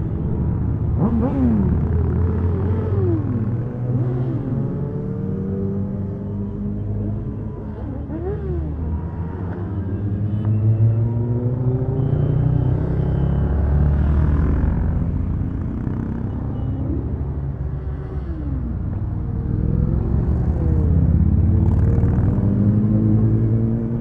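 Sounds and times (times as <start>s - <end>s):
motorcycle engines rumbling: 0.0s - 24.0s.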